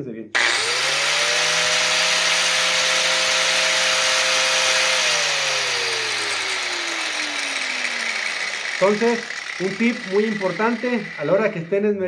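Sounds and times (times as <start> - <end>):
angle grinder whine: 0.4 - 12.0.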